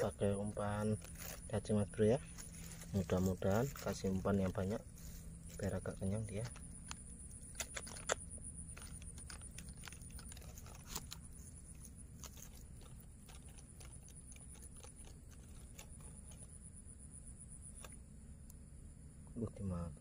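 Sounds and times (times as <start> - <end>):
twigs and leaves crackling: 0.0 - 16.7.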